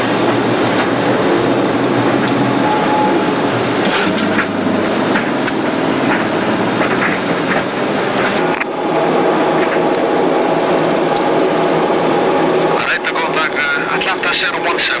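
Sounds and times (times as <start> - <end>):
jet engine and airflow rush: 0.0 - 15.0.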